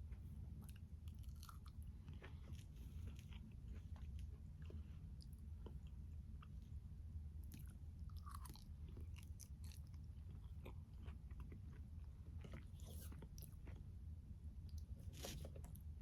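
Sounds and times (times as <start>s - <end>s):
steady low hum: 0.0s - 16.0s
person chewing food: 0.1s - 6.7s, 7.5s - 13.9s.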